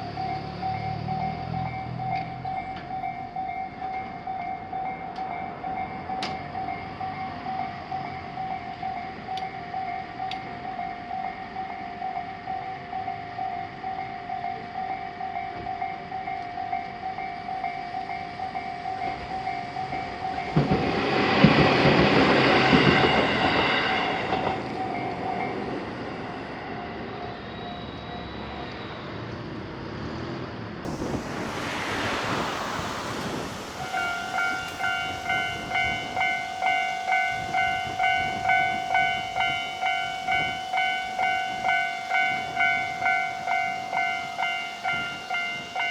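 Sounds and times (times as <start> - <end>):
level-crossing warning bell: 0.0 - 29.2, 30.9 - 45.9
train passing: 0.0 - 45.9.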